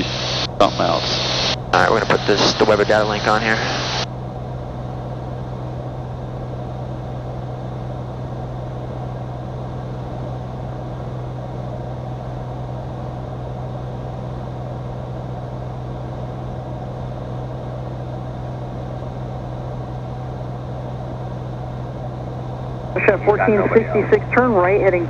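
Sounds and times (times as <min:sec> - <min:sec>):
aircraft cabin engine drone: 0:00.0 - 0:25.0.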